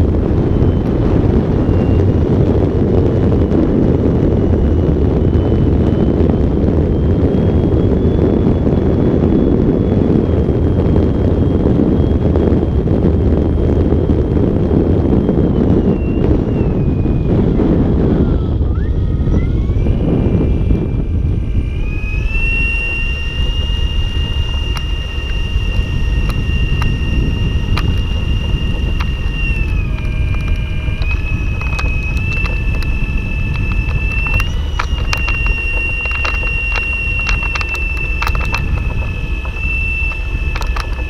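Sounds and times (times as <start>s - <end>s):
electric motor whine: 0.0s - 41.0s
low rumble: 0.0s - 41.0s.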